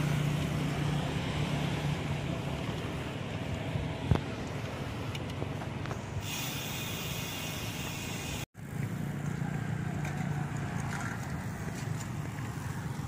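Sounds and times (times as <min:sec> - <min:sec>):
bicycle rolling on concrete road: 0:00.0 - 0:13.0
wind: 0:00.0 - 0:13.0.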